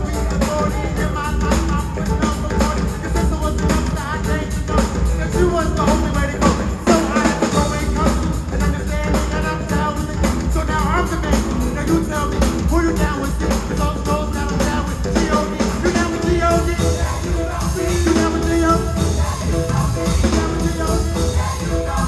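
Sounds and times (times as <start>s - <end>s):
gospel band playing: 0.0s - 22.0s
people singing: 0.0s - 22.0s.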